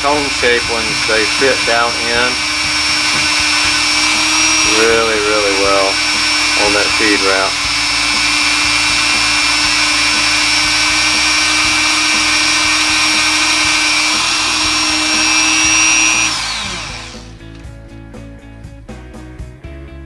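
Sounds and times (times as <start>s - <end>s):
rotary tool whining: 0.0s - 17.7s.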